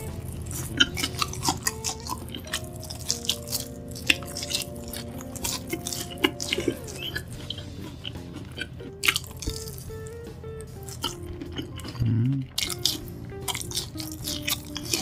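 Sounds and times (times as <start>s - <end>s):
chewing and biting: 0.0s - 15.0s
soft background music: 0.0s - 15.0s.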